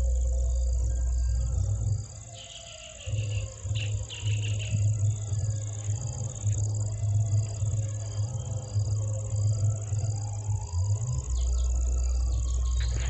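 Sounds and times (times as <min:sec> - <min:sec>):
low rumble hum: 0:00.0 - 0:02.4, 0:03.0 - 0:13.0
insects trilling: 0:00.0 - 0:13.0
pulsed insect chirp: 0:00.0 - 0:13.0.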